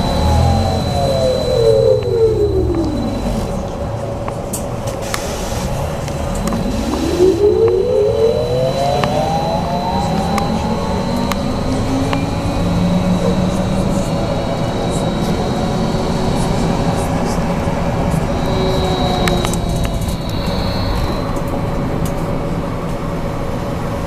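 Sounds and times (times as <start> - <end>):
faint steady high tone: 0.0 - 3.9, 6.4 - 21.8
trolleybus electric drive whining: 0.0 - 24.0.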